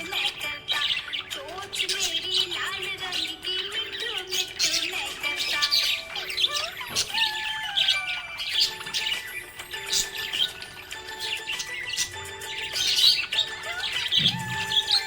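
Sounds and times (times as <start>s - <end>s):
background music: 0.0s - 15.0s
budgies chirping and squawking: 0.0s - 15.0s.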